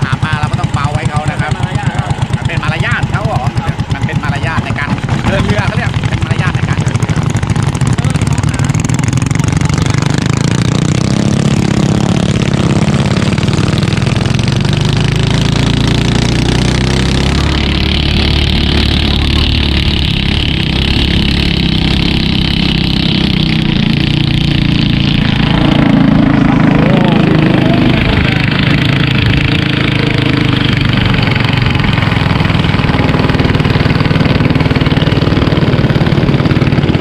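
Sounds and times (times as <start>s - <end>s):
boat engine running loud: 0.0s - 37.0s
deeper drone: 0.0s - 37.0s.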